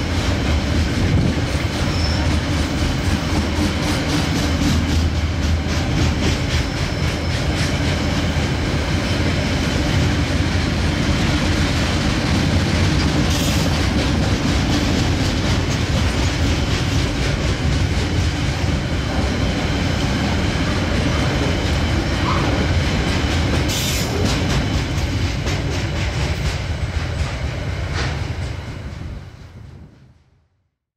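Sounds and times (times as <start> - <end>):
wind rumbling on microphone: 0.0 - 6.5, 7.7 - 30.3
train wheels clattering over rail joints: 0.0 - 29.6.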